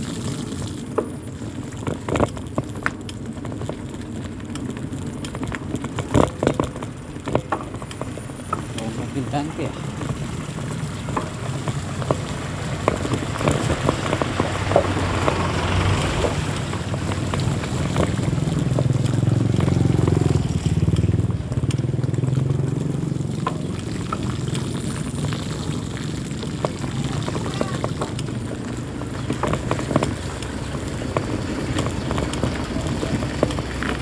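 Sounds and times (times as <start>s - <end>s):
bicycle knocks and rattles: 0.0s - 34.0s
bicycle ride rumble: 0.0s - 34.0s
motorcycle passing: 0.0s - 34.0s.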